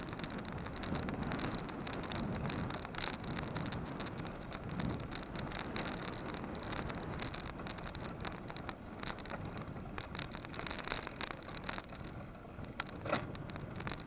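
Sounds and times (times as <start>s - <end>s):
camera and bike rattling: 0.0s - 14.0s
wind and road noise: 0.0s - 14.0s.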